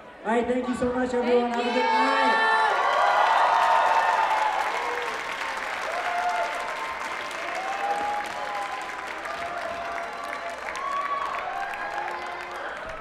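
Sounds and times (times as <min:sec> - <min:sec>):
audience applauding and cheering: 0:01.5 - 0:13.0.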